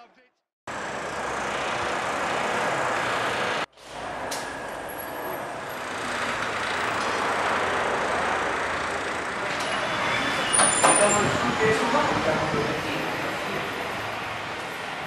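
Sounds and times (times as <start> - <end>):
street traffic noise: 0.7 - 15.0.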